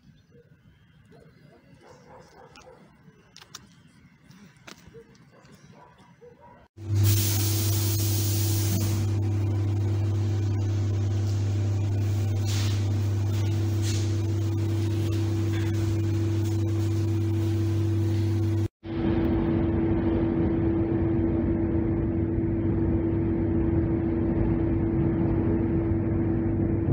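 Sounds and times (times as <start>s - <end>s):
electrical hum in train car: 1.8s - 26.9s.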